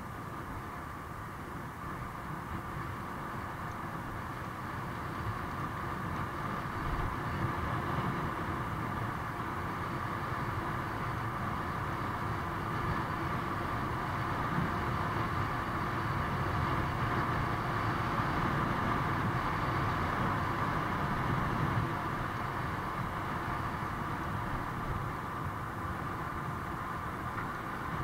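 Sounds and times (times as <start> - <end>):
tyres rolling on pavement: 1.8 - 28.0.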